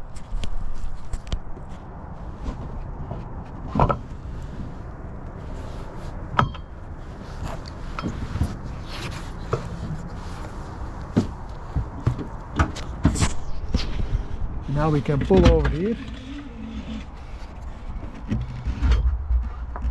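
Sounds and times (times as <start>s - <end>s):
low steady rumble: 0.0s - 19.9s.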